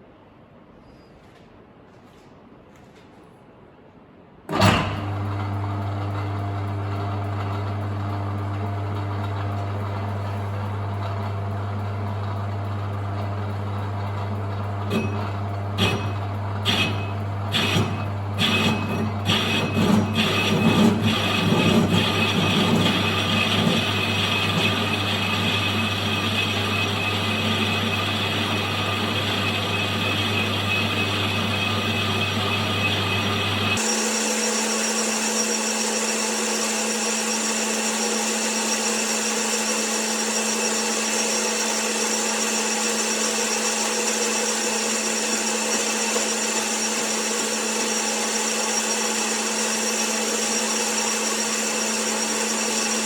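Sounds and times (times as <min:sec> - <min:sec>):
metal lathe cutting: 0:04.5 - 0:53.0.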